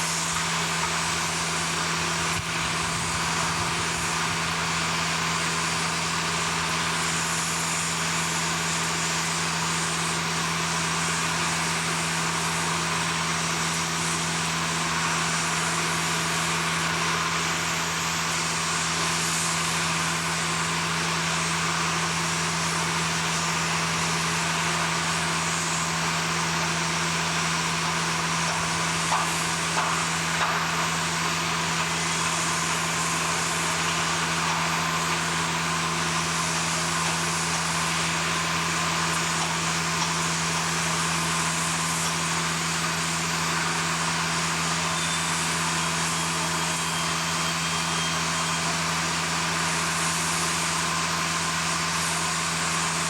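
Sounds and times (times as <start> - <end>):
machinery droning: 0.0 - 53.0.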